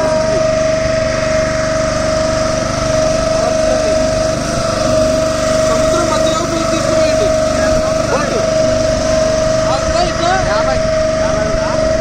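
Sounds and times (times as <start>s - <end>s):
small boat engine droning: 0.0s - 12.0s.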